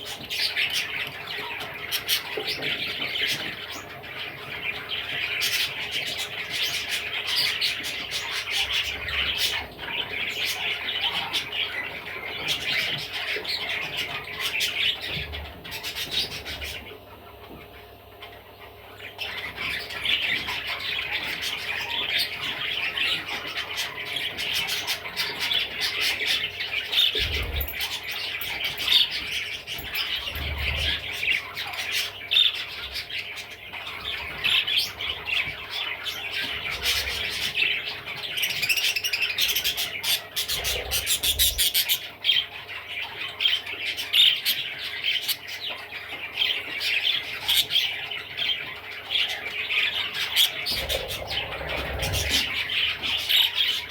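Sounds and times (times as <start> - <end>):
budgerigar chattering and warbling: 0.0 - 53.9.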